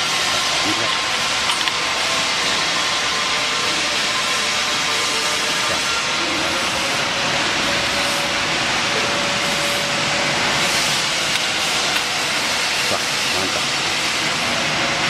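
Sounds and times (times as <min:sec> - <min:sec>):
cutting machine running: 0:00.0 - 0:15.0.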